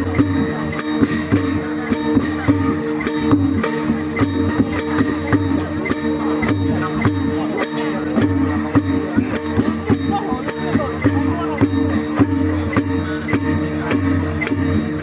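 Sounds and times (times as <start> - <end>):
drum strikes: 0.0 - 15.0.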